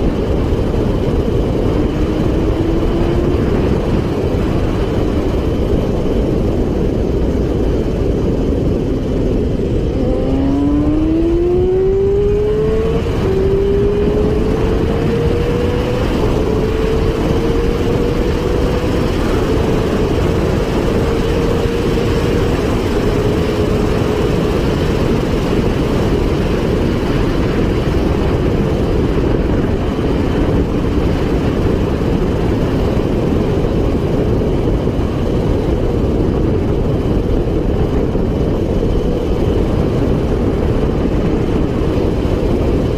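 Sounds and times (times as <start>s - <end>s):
motorcycle engine accelerating: 0.0s - 42.9s
wind noise at speed: 0.0s - 42.9s.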